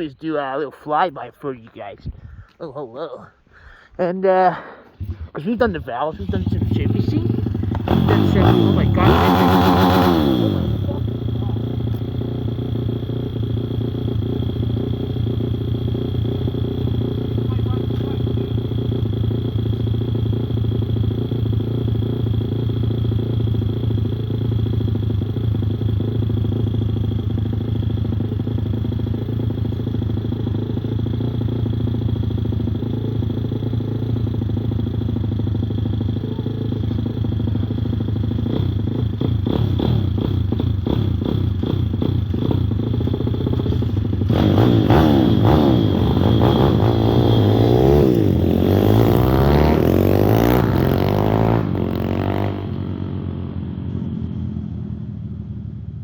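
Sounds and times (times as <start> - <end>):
motorbike engine idling and revving: 0.0 - 56.0.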